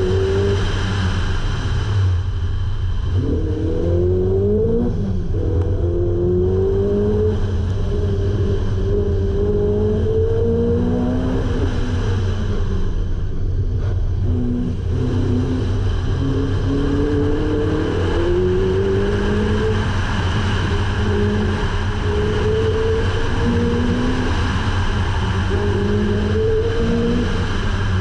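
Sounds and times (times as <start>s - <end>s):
car engine revving: 0.0s - 28.0s
low road and exhaust rumble: 0.0s - 28.0s.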